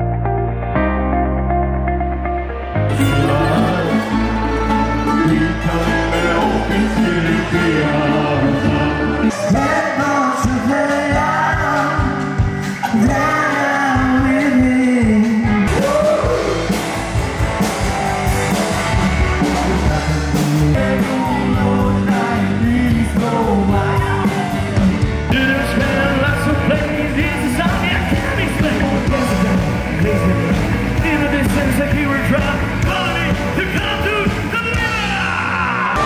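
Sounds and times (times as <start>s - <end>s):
rock band playing: 0.0s - 36.0s
man singing and shouting: 3.0s - 16.7s, 19.4s - 36.0s.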